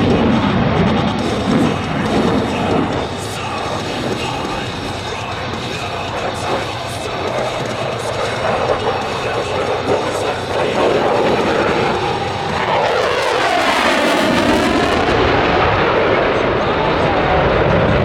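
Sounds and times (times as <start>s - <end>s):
jet flying past low: 0.0s - 18.0s.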